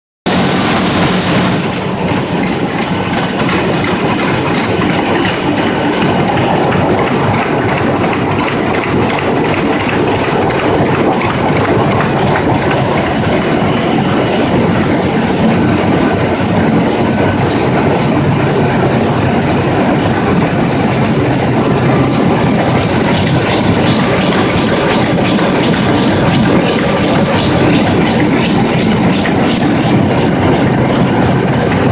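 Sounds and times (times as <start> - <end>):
printing press clattering: 0.3 - 31.9.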